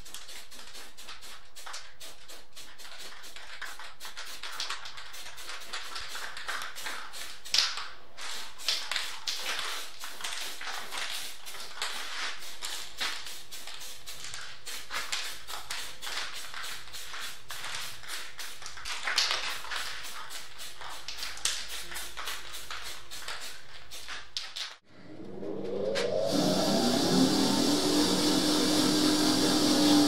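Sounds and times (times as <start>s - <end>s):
spray paint can hissing: 0.0s - 24.8s, 26.3s - 30.0s.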